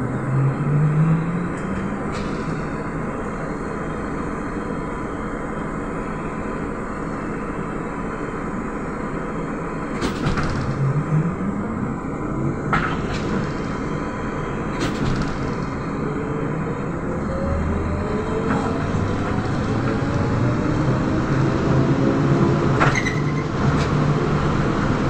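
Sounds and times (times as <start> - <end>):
trolleybus running rumble: 0.0 - 25.0.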